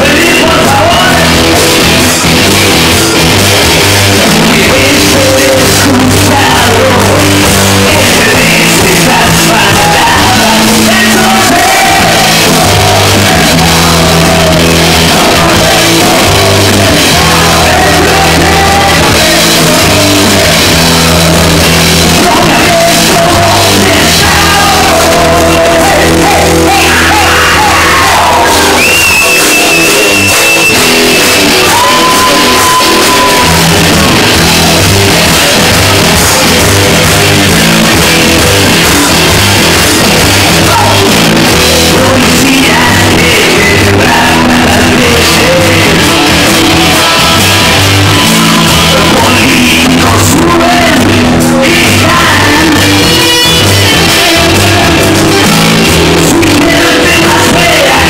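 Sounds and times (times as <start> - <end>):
live rock band playing: 0.0 - 58.0
shouted vocals: 0.0 - 58.0.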